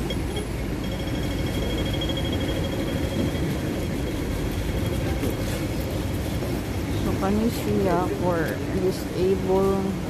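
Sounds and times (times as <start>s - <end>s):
traffic rumbling: 0.0s - 10.0s.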